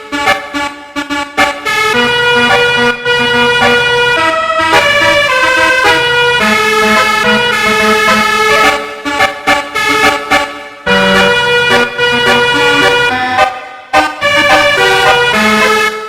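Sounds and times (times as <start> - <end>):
multi-trumpet horn melody: 0.0 - 16.0.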